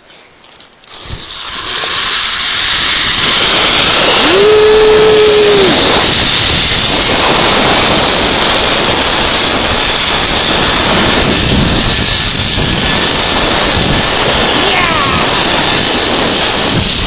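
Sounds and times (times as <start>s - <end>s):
zipline pulleys hissing and whining: 0.0s - 17.0s
wind on microphone: 1.0s - 17.0s.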